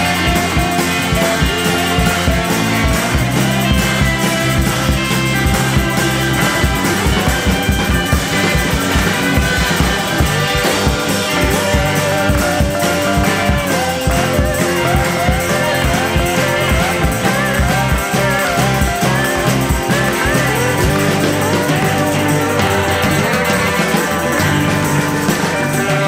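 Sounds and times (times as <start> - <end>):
rock melody line: 0.0 - 26.0
steady drum beat: 0.0 - 26.0.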